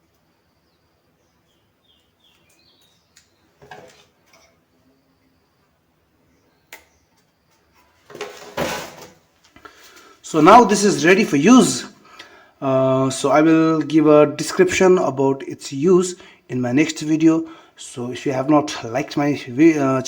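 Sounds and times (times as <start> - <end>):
birds chirping faintly: 0.0 - 8.5, 9.4 - 20.0.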